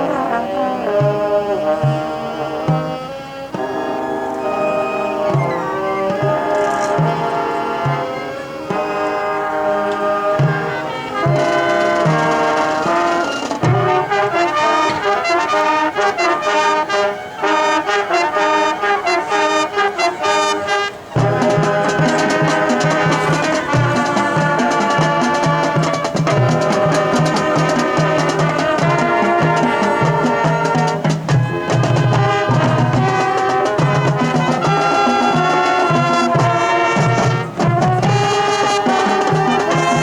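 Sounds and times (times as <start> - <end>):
drumline: 0.0 - 40.0
marching band brass: 0.0 - 40.0.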